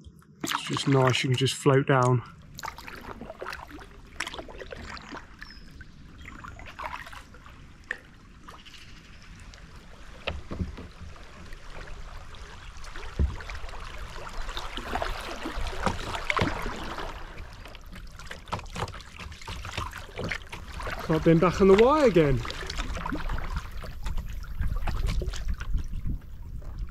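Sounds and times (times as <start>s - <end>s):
water rippling and splashing: 0.0s - 26.9s.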